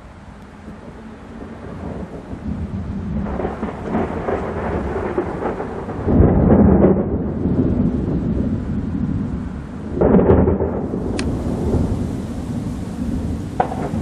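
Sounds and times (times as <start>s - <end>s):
thunder rumbling: 0.6s - 14.0s
loud thunderclap: 0.9s - 14.0s.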